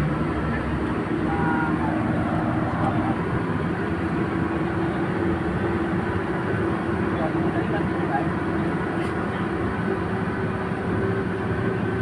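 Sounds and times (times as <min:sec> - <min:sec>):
coach engine and road noise: 0:00.0 - 0:12.0.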